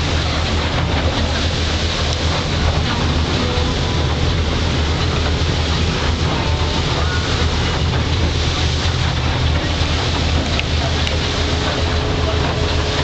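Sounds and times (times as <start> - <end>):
boat engine drone: 0.0 - 13.0
rushing hiss: 0.0 - 13.0.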